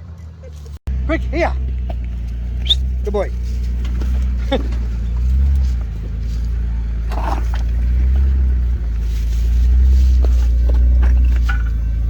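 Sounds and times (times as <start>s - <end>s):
vehicle engine at low revs: 0.0s - 12.0s.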